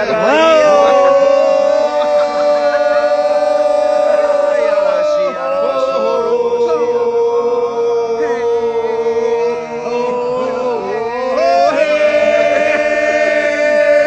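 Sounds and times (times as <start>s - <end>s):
voices chanting wordless tones: 0.0s - 14.0s.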